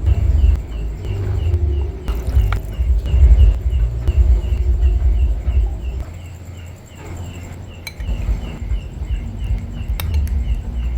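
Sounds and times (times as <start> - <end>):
insect chirping: 0.0 - 10.9
loud low rumble: 0.0 - 10.9.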